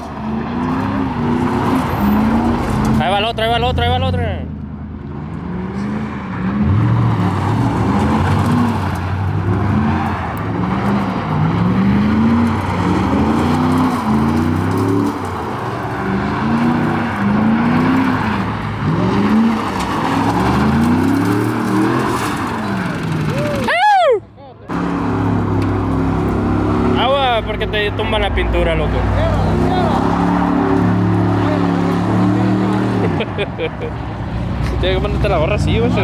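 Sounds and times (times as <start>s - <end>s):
vehicle engine revving: 0.0s - 23.7s, 24.7s - 36.0s.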